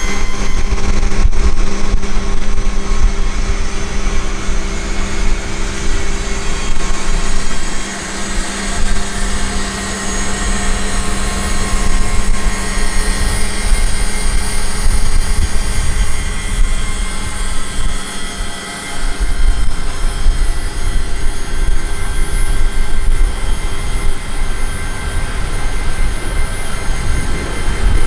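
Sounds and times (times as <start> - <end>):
aircraft machine drone: 0.0 - 28.0
heavy fluctuating rumble: 0.0 - 28.0.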